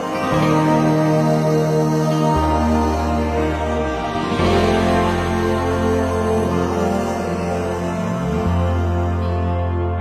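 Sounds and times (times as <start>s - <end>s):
music of sustained chords: 0.0s - 10.0s.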